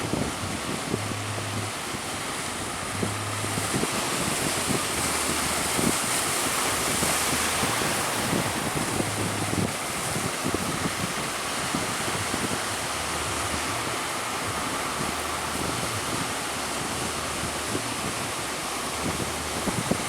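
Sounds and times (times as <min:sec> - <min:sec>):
sea waves rushing: 0:00.0 - 0:20.0
wind buffeting microphone: 0:00.0 - 0:20.0.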